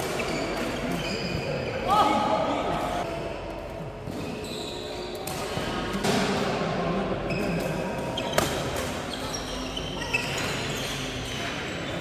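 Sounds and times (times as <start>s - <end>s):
court shoes squeaking: 0.0s - 2.1s, 2.8s - 5.8s, 7.2s - 12.0s.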